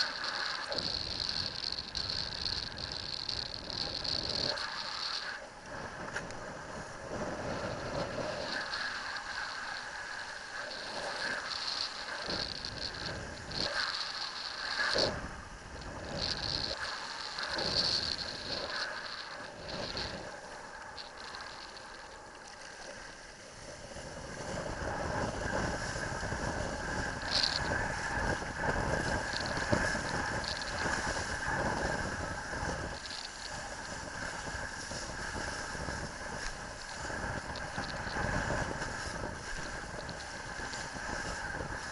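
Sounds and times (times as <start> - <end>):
wind rushing over camera: 0.0 - 41.9.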